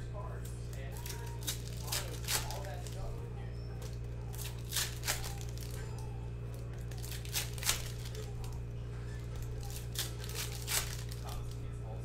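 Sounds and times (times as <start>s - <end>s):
steady low hum: 0.0s - 12.0s
plastic wrappers crinkling and tearing: 0.7s - 3.2s, 3.8s - 11.8s.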